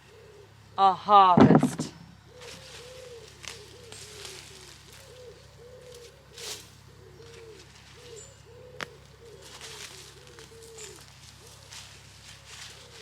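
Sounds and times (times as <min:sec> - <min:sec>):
birds calling: 0:00.0 - 0:13.0
rustle: 0:02.0 - 0:13.0.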